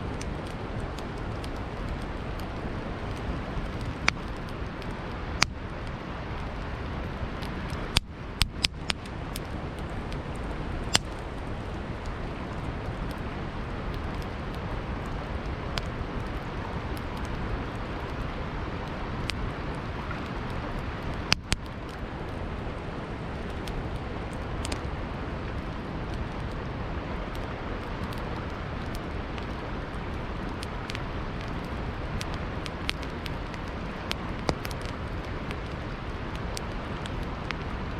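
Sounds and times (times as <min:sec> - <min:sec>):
campfire crackling and popping: 0:00.0 - 0:37.9
river water flowing: 0:00.0 - 0:37.9.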